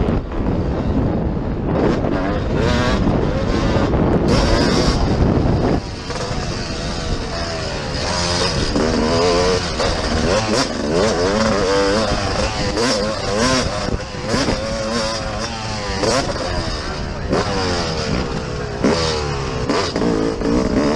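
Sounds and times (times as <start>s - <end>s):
dirt bike engines revving: 0.0s - 20.9s.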